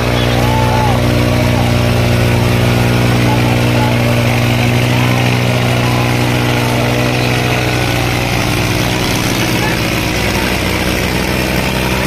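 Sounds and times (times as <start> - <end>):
tractor diesel engines droning: 0.0 - 12.0.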